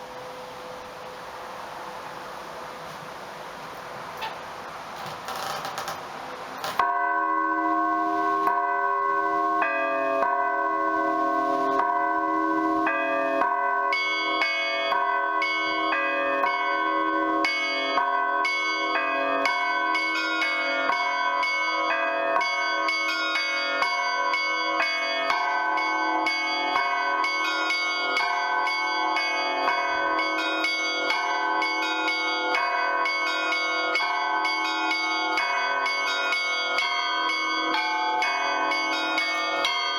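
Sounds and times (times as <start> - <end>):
middle chiming bells: 6.7 - 39.9.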